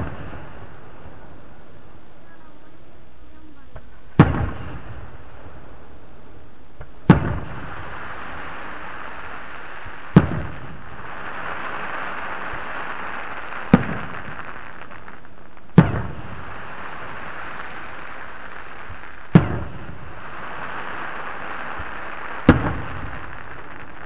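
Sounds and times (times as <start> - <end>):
fireworks booming overhead: 0.0 - 24.0
steady hiss: 0.0 - 24.0.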